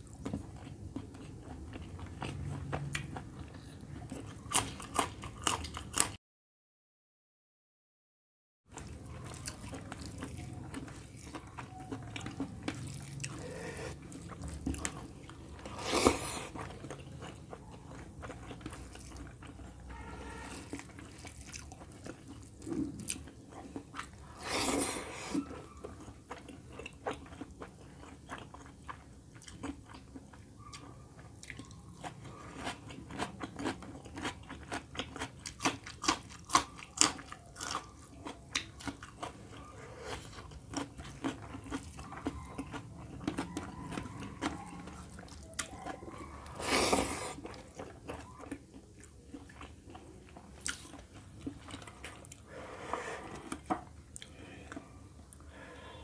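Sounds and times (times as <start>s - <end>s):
chewing and wet mouth sounds: 0.0s - 6.2s, 8.7s - 56.0s.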